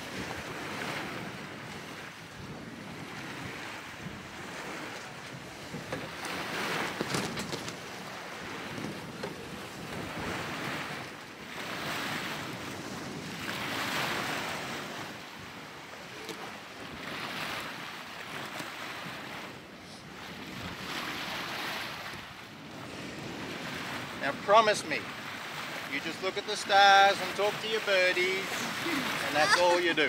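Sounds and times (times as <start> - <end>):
wind on microphone: 0.0 - 24.2
water rushing past hulls: 0.0 - 30.0.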